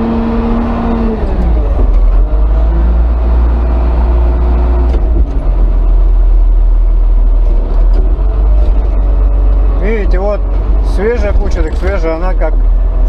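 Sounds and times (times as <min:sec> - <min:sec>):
diesel engine working under load: 0:00.0 - 0:13.0.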